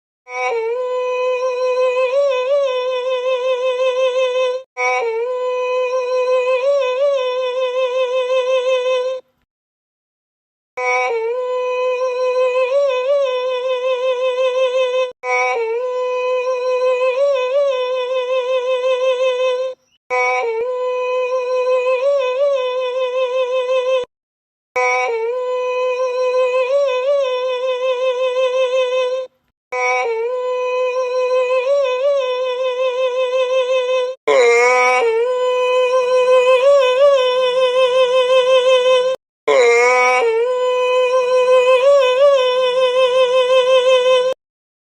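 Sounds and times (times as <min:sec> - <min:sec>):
voice singing yodel-like note: 0:00.3 - 0:09.3, 0:10.8 - 0:24.1, 0:24.8 - 0:44.4.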